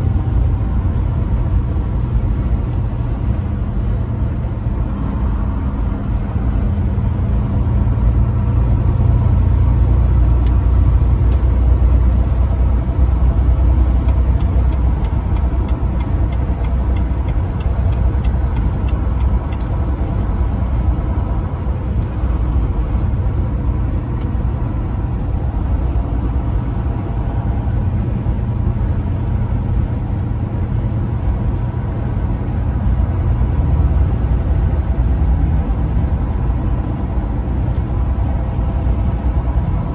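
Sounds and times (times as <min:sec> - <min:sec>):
road noise: 0:00.0 - 0:39.9
truck engine rumble: 0:00.0 - 0:39.9.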